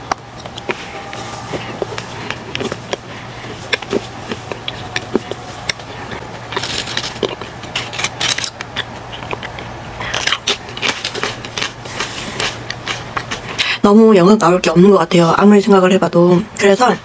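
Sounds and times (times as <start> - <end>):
chewing crunchy chips: 0.0 - 13.8.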